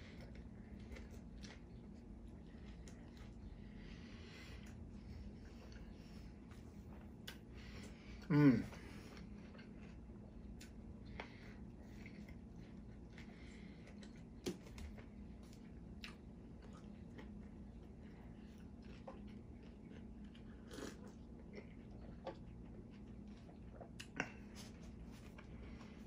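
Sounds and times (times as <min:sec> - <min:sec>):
faint low hum: 0:00.0 - 0:26.0
person chewing sandwich: 0:00.0 - 0:26.0.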